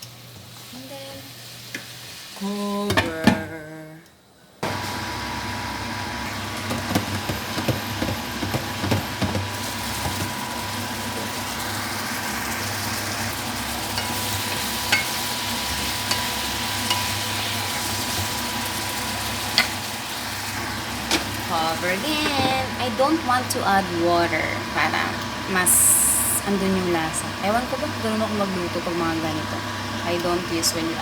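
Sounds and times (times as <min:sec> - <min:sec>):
chicken sizzling in a frying pan: 0:00.0 - 0:02.9, 0:04.6 - 0:26.6.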